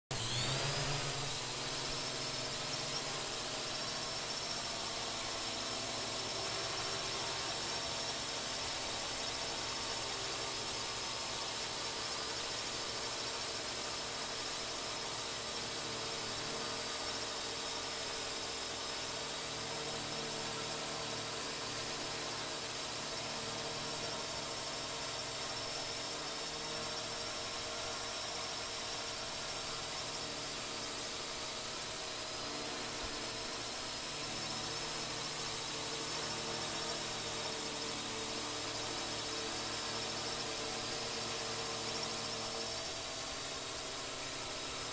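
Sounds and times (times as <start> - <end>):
drone propellers whining: 0.1 - 14.5, 15.5 - 44.9.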